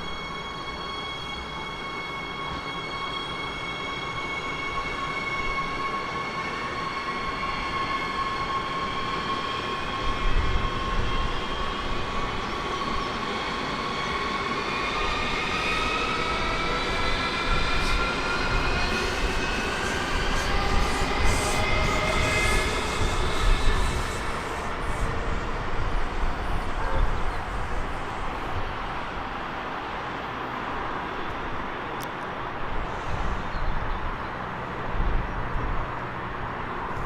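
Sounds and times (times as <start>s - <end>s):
electric train whine: 0.0s - 37.0s
train rumble: 0.0s - 37.0s.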